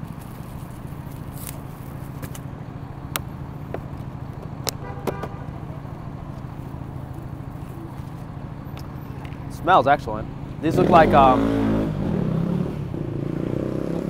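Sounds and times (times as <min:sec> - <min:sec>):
city street traffic hum: 0:00.0 - 0:14.0.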